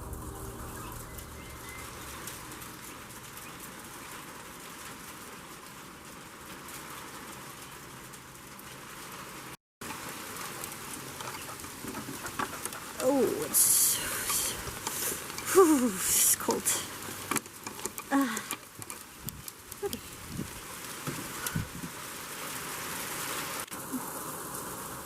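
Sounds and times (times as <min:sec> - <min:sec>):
freezing rain hissing: 0:00.0 - 0:25.0.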